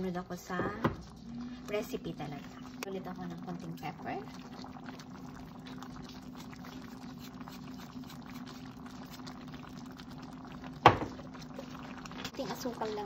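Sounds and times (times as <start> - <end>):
stew bubbles popping in sauce: 0.7 - 13.0.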